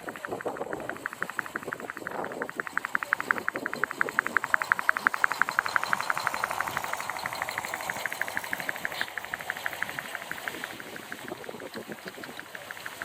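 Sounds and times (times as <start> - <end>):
model locomotive rapid clicking: 0.0 - 13.0.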